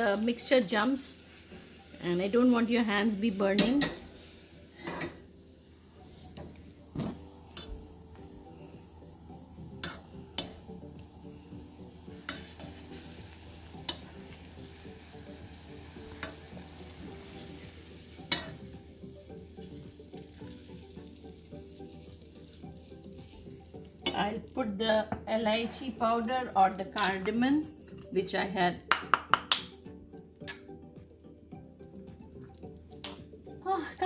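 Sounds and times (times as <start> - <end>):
mixture bubbling and sizzling: 0.0 - 34.0.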